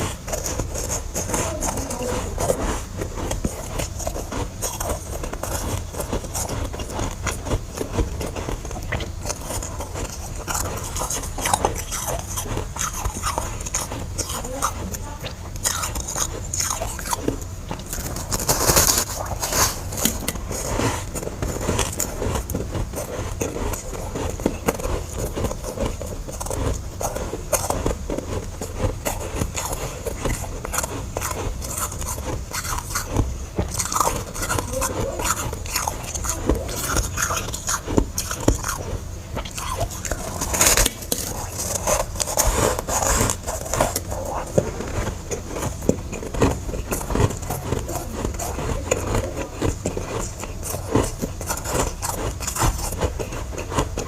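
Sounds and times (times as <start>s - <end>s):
chewing ice crunches: 0.0s - 54.0s.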